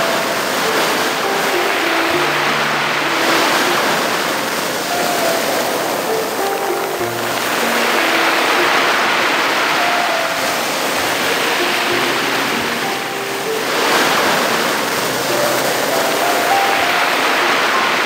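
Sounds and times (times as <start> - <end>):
waves rattling over pebbles: 0.0 - 18.0.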